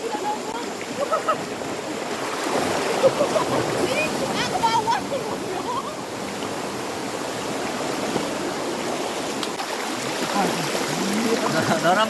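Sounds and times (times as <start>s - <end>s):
waterfall pouring and rushing: 0.0s - 12.0s.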